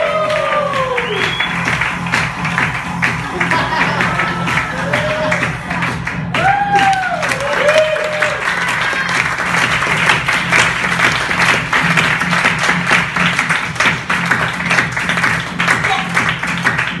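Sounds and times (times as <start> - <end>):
audience applauding: 0.0 - 17.0
music over loudspeakers: 0.0 - 17.0.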